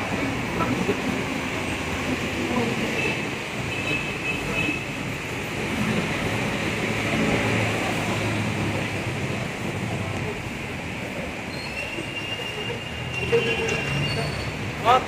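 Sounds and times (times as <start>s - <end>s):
passing traffic: 0.0s - 15.0s.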